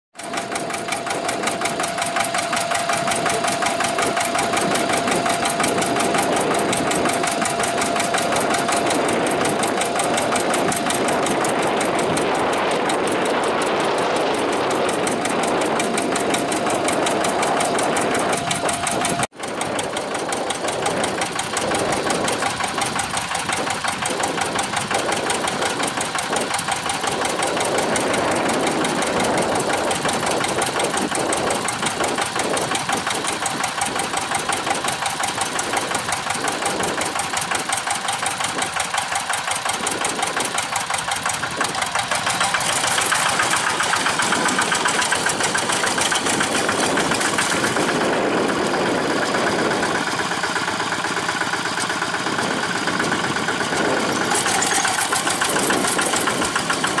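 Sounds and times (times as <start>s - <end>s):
diesel engine running: 0.2s - 57.0s.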